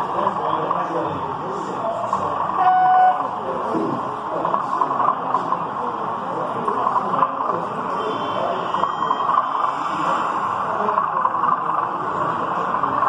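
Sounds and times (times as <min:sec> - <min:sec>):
chatter of many people: 0:00.0 - 0:13.0.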